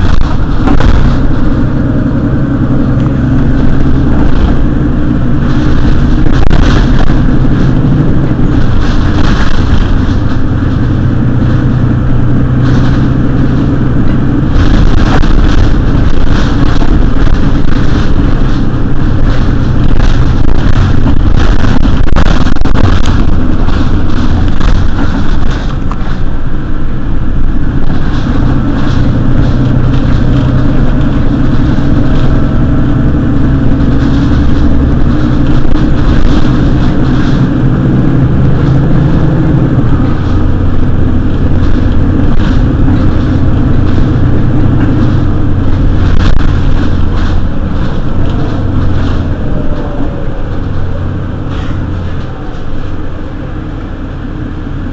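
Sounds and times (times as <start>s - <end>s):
bus engine running: 0.0s - 54.9s
rattling: 0.0s - 54.9s.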